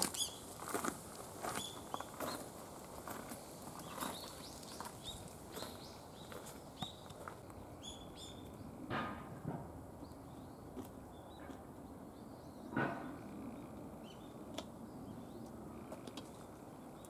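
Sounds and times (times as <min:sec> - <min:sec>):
small birds chirping: 0:00.0 - 0:08.8, 0:10.0 - 0:17.0.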